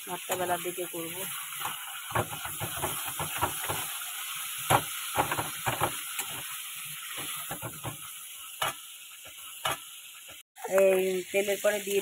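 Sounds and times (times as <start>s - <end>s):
hot oil sizzling in a pan: 0.0s - 12.0s.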